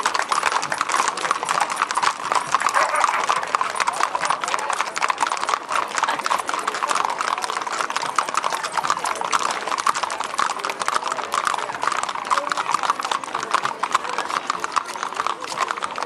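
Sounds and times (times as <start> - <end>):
hooves clip-clopping on asphalt: 0.0 - 16.0.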